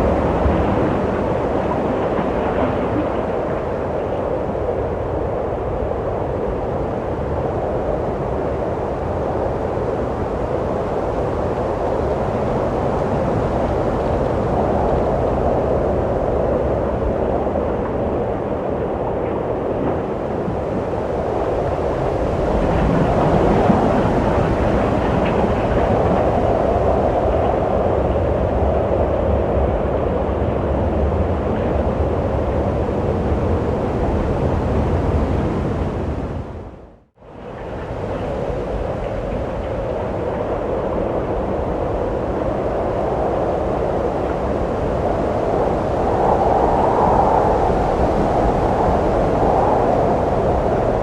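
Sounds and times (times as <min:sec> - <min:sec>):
wind blowing: 0:00.0 - 0:51.0.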